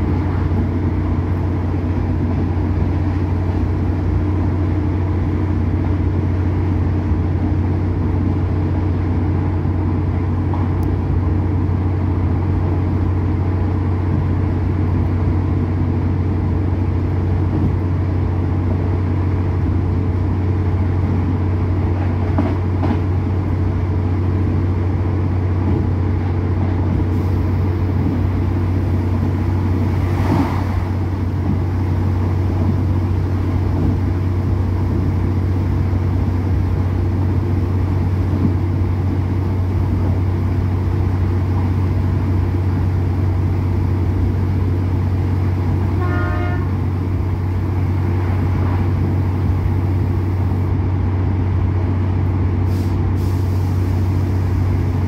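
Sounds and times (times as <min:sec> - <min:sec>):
railcar engine drone: 0:00.0 - 0:55.0
train rumble: 0:00.0 - 0:55.0.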